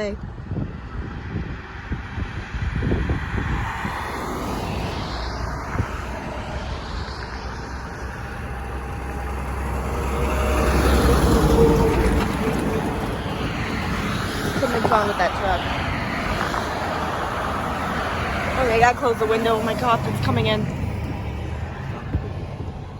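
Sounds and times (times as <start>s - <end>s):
road traffic rumble: 0.0s - 22.9s.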